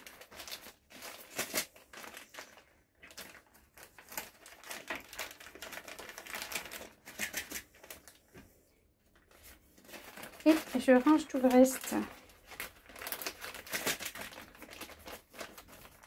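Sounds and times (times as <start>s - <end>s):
plastic pouches crinkling: 0.0s - 8.5s, 9.1s - 16.0s.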